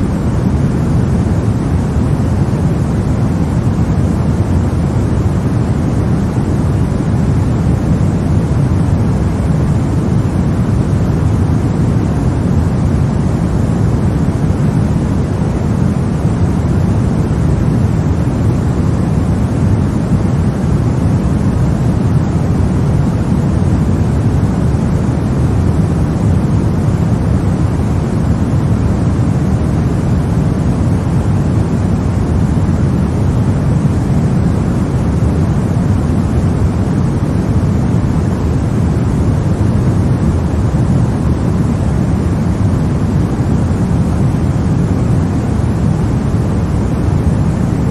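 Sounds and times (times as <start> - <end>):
deep steady white noise: 0.0 - 47.9.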